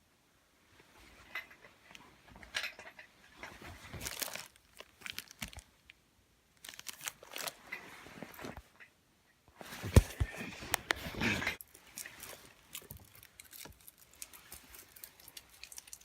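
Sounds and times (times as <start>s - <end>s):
rustling and crinkling: 0.7s - 8.9s, 9.5s - 16.0s.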